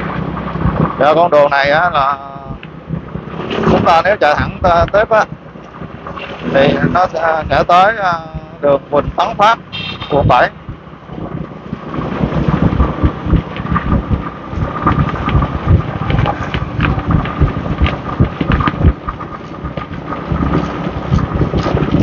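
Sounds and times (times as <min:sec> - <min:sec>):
motorbike engine hum: 0:00.0 - 0:22.0
street traffic: 0:00.0 - 0:22.0
wind buffeting microphone: 0:00.0 - 0:22.0.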